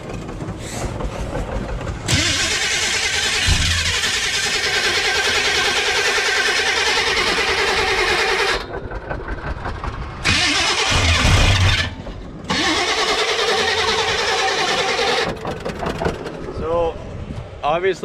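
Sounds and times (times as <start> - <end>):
starter cranking engine: 0.0 - 16.7.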